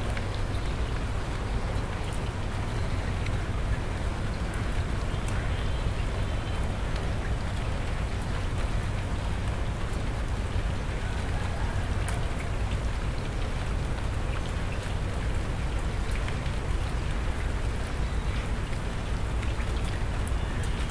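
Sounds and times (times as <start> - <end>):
rain on concrete roof: 0.0 - 20.9.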